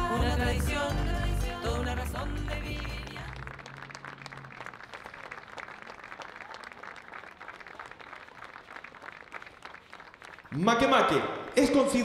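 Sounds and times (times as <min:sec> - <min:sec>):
crowd applauding: 0:00.4 - 0:12.0.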